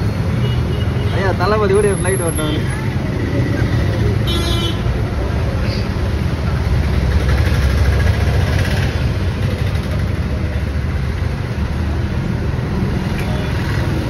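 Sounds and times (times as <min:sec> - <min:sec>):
traffic noise: 0:00.0 - 0:14.0
vehicle engine rumbling: 0:00.0 - 0:14.0.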